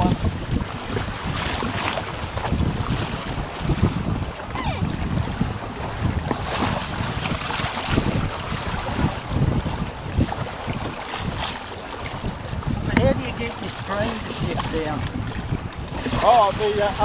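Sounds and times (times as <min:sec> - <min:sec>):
water rushing along a hull: 0:00.0 - 0:17.0
wind buffeting microphone: 0:00.0 - 0:17.0.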